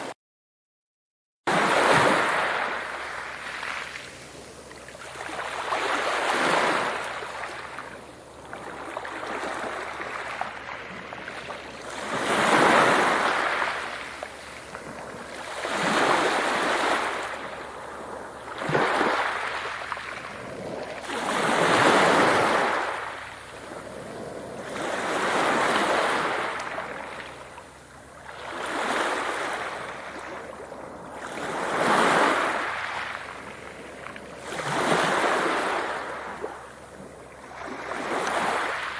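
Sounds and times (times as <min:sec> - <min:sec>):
ocean waves washing onto shore: 0:01.5 - 0:38.9.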